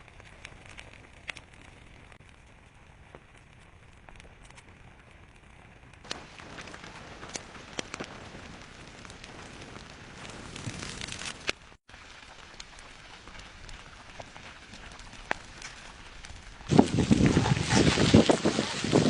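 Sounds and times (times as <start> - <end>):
lava crackling and hissing: 0.0 - 19.0.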